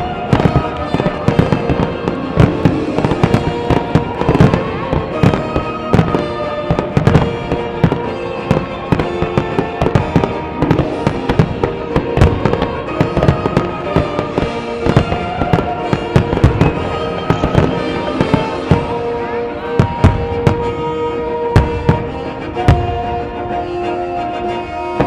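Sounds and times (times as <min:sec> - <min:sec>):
music with held notes: 0:00.0 - 0:25.0.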